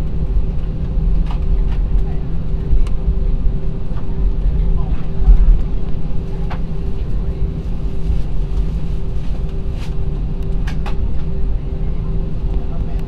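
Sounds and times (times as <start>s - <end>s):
jet engines low rumble: 0.0s - 13.0s
steady hum: 0.0s - 13.0s.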